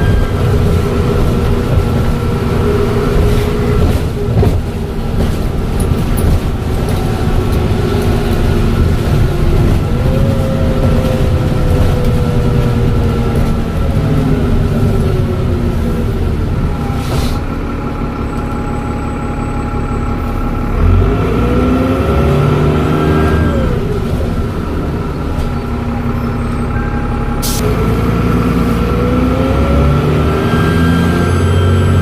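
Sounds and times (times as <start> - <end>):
bus engine: 0.0 - 32.0.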